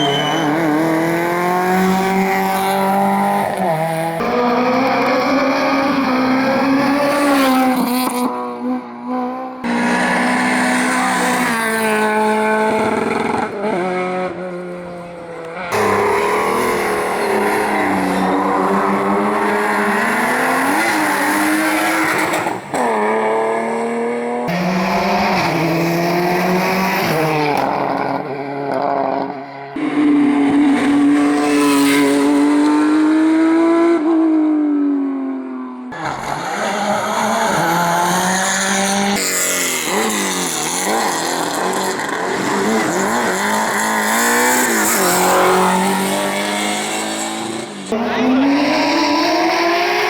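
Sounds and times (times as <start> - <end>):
racing car engines revving: 0.0 - 50.0.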